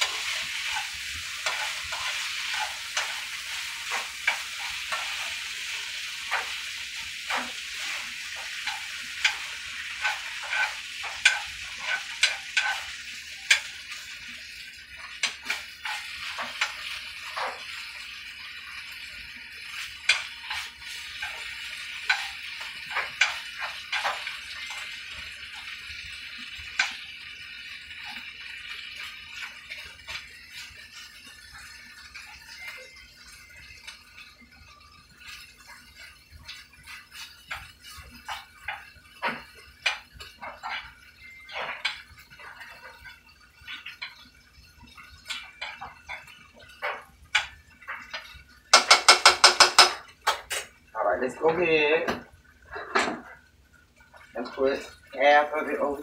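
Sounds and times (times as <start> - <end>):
spatula scraping and tapping pan: 0.0 - 50.8
steak sizzling in a frying pan: 0.0 - 56.0.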